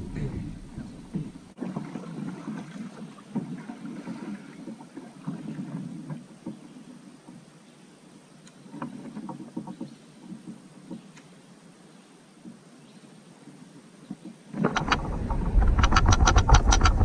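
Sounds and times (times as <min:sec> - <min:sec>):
paddle dipping and splashing: 0:00.0 - 0:17.0.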